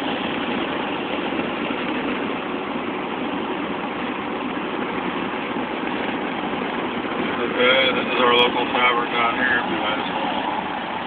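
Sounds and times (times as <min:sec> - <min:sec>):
road noise inside car: 0:00.0 - 0:11.0.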